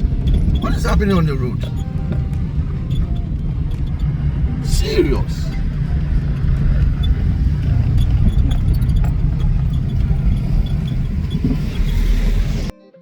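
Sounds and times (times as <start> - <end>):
small rattles and clicks: 0.0 - 4.3, 5.5 - 12.7
motor vehicle rumbling on road: 0.0 - 12.7.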